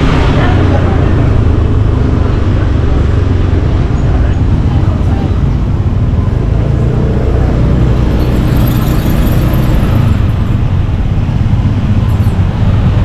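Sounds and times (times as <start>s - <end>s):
loud low rumble: 0.0s - 13.0s
motorcycle engine: 0.0s - 13.0s
road noise: 0.0s - 13.0s.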